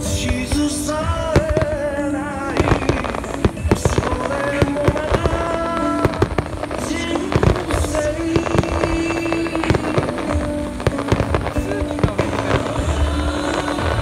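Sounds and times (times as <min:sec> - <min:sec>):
fireworks bursting: 0:00.0 - 0:14.0
music playing: 0:00.0 - 0:14.0.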